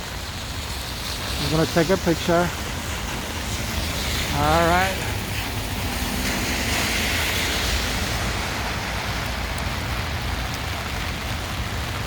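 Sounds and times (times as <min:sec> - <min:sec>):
hard rain falling: 0:00.0 - 0:12.0
traffic hiss on wet pavement: 0:00.0 - 0:12.0.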